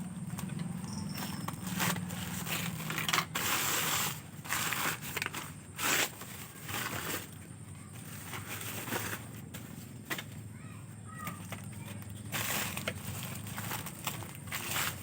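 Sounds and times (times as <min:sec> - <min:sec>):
packaging crinkling and rustling: 0:00.2 - 0:10.4, 0:11.3 - 0:15.0.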